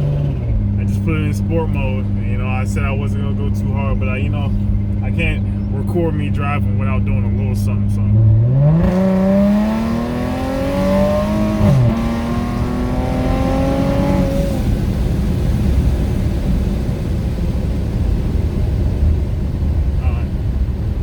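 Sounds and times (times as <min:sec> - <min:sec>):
car engine accelerating hard: 0:00.0 - 0:21.0
road noise inside car: 0:00.0 - 0:21.0.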